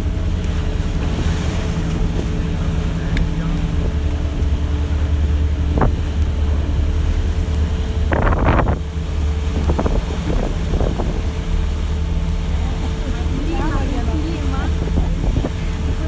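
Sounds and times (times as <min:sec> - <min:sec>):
boat engine droning: 0:00.0 - 0:16.0
wind buffeting microphone: 0:00.0 - 0:16.0.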